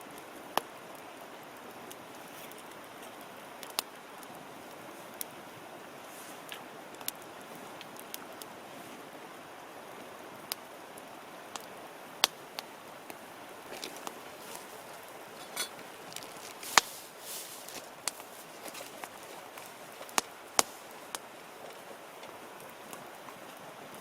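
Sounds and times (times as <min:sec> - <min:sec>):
campfire crackling and popping: 0:00.0 - 0:24.0
soft fire hiss: 0:00.0 - 0:24.0.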